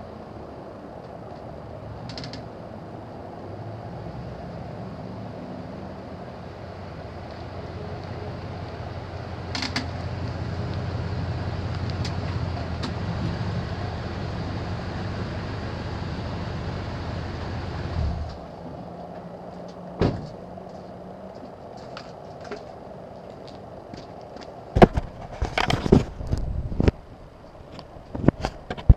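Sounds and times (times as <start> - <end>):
pickup truck low hum: 0.0 - 28.9.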